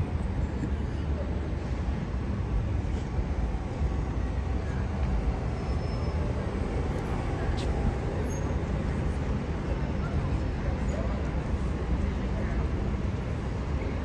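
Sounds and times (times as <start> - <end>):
buses and traffic rumbling: 0.0 - 14.0
murmur of passers-by: 0.0 - 14.0.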